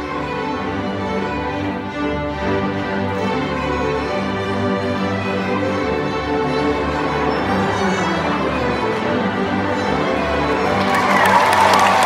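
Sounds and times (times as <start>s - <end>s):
string orchestra playing: 0.0s - 12.0s.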